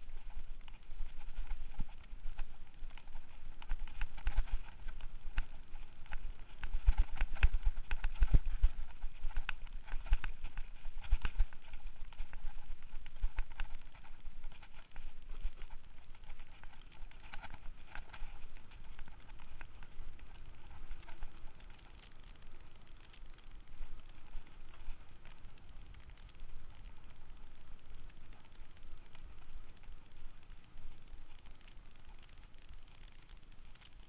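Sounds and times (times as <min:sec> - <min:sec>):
bike rattling over rough trail: 0:00.0 - 0:34.0
bike rolling on pavement: 0:00.0 - 0:34.0.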